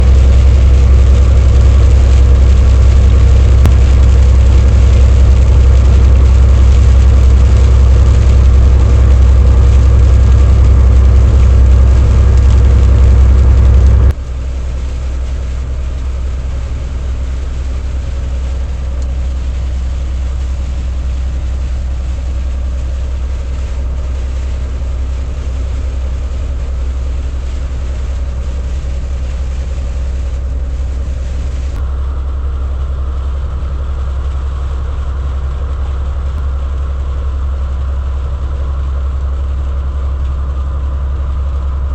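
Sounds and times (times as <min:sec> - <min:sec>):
heavy truck engine running: 0:00.0 - 0:41.9.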